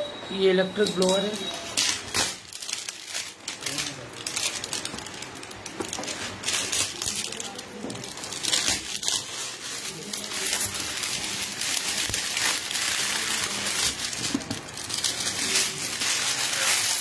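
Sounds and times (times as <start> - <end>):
plastic wrap crinkling: 0.8 - 17.0.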